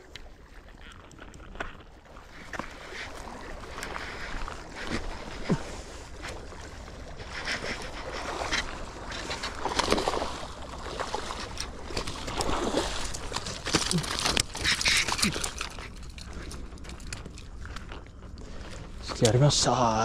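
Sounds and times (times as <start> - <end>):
water sloshing and surging: 0.0 - 20.0.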